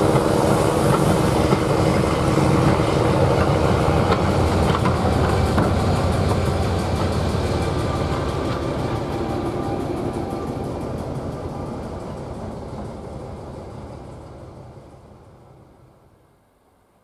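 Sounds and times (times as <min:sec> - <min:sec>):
diesel locomotive engine: 0:00.0 - 0:16.8.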